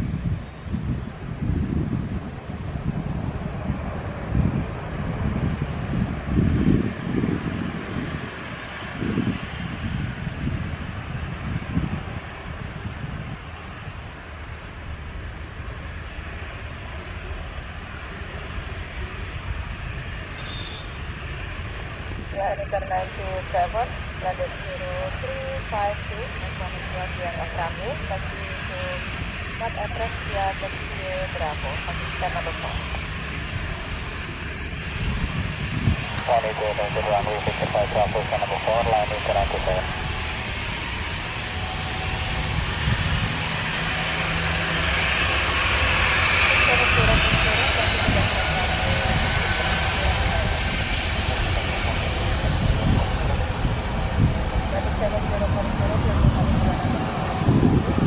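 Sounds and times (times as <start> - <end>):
jet engine rumble: 0.0 - 58.0
wind buffeting microphone: 0.0 - 58.0.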